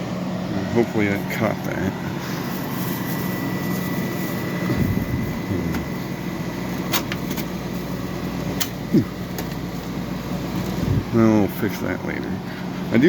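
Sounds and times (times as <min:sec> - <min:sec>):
air conditioner fan rush: 0:00.0 - 0:13.0
deeper hum: 0:00.0 - 0:13.0.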